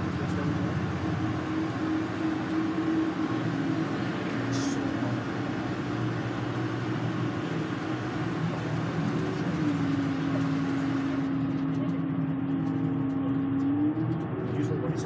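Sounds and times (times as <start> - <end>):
bus engine and tyre drone: 0.0 - 15.0
drivetrain hum: 0.0 - 15.0.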